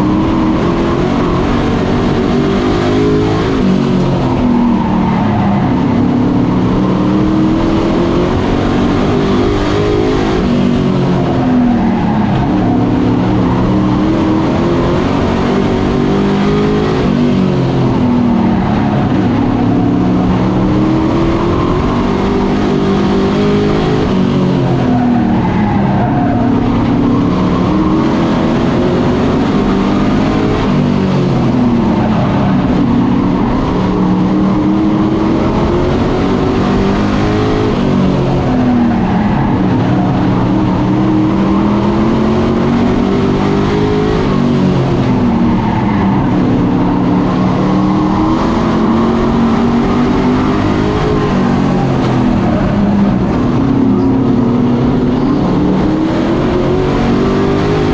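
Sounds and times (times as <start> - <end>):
race truck engines: 0.0 - 57.9.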